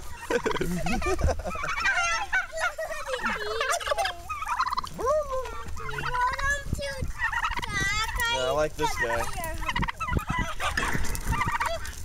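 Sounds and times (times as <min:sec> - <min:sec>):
turkeys gobbling: 0:00.0 - 0:12.0.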